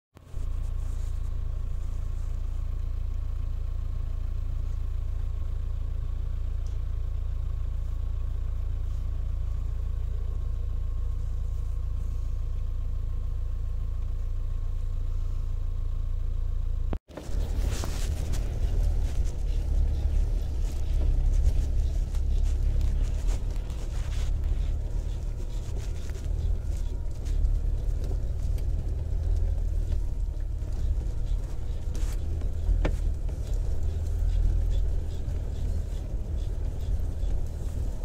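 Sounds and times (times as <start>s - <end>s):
engine and road rumble in cabin: 0.1s - 38.0s.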